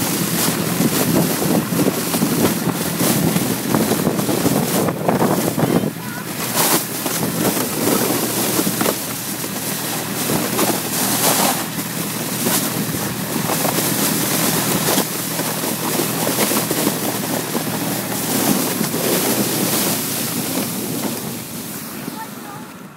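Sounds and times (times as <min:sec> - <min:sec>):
wind buffeting microphone: 0:00.0 - 0:22.4
sled hissing across snow: 0:00.0 - 0:22.9.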